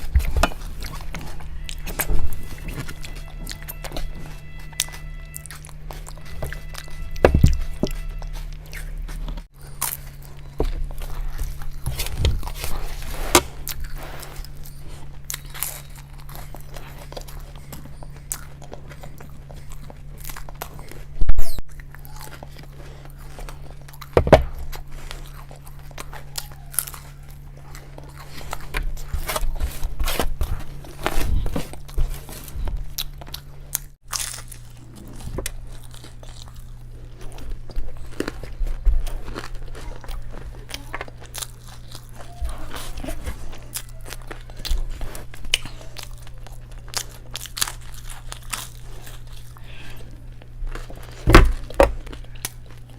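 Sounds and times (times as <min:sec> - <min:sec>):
crunching and chewing food: 0:00.0 - 0:52.9
low hum: 0:00.0 - 0:52.9.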